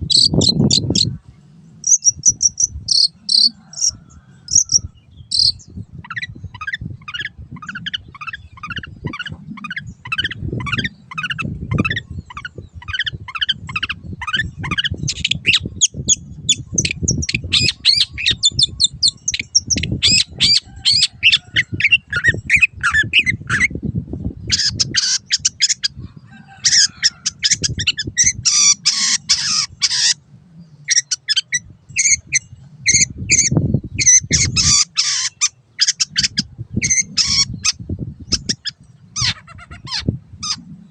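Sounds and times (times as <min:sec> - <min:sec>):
bird singing repeated notes: 0:00.0 - 0:40.9.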